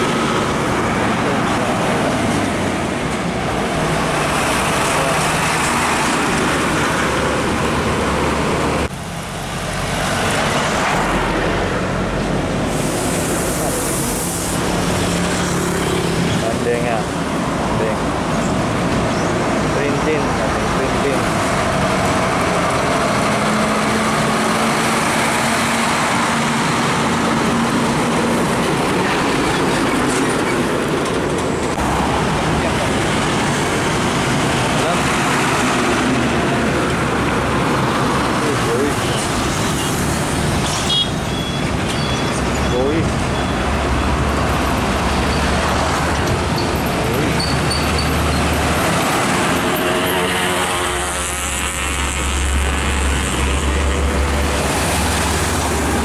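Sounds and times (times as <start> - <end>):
truck passing close by: 0.0 - 17.1, 18.2 - 56.0
road traffic: 0.0 - 56.0.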